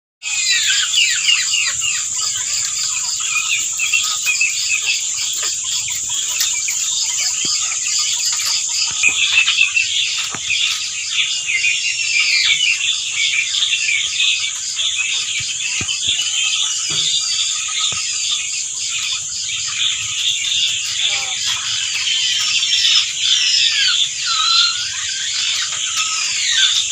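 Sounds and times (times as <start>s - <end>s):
quails chirping: 0.2s - 26.9s
steady high-pitched hiss: 0.3s - 26.9s.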